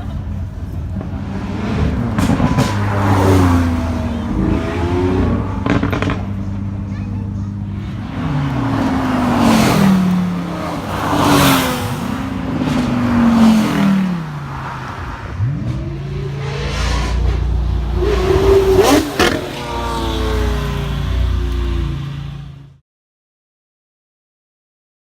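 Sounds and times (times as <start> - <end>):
car engines revving: 0.0 - 22.8.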